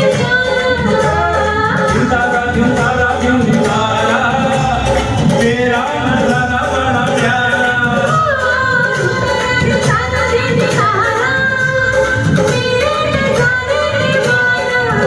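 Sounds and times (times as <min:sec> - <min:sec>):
film song with singing: 0:00.0 - 0:15.0.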